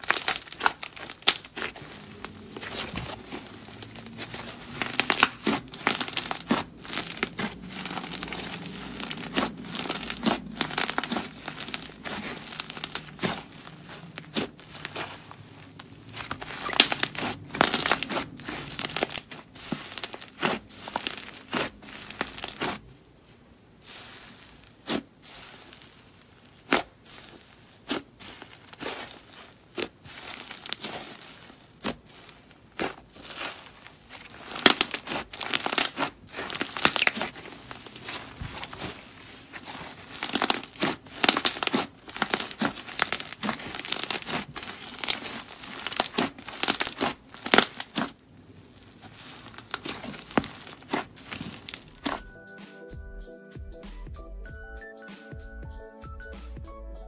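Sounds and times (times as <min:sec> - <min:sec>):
slime squished by hand: 0:00.0 - 0:22.9, 0:23.8 - 0:52.2.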